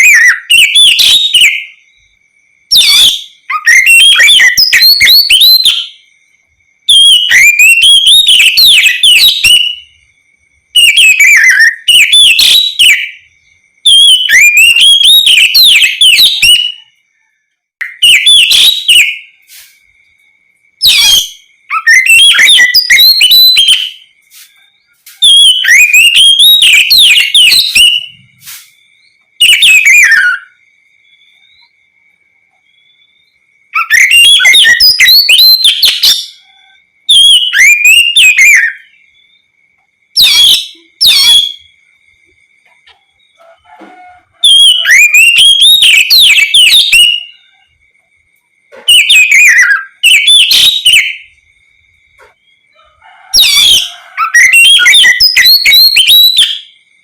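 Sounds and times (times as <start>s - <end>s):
bird singing whistled phrases: 0.0s - 2.0s, 2.7s - 6.1s, 6.9s - 10.0s, 10.8s - 17.0s, 17.8s - 19.9s, 20.8s - 31.8s, 32.5s - 39.4s, 40.2s - 41.8s, 44.4s - 47.6s, 48.8s - 51.4s, 53.4s - 56.8s
faint steady high tone: 0.0s - 57.0s.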